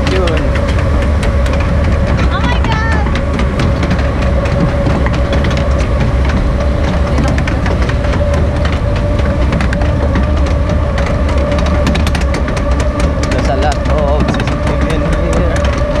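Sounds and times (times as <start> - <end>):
mechanical rumble and whine: 0.0 - 16.0.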